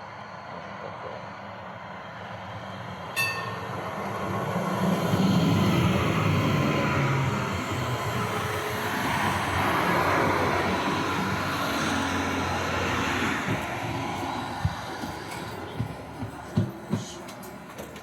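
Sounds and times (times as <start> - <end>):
tram rumbling on rails: 0.1 - 18.0.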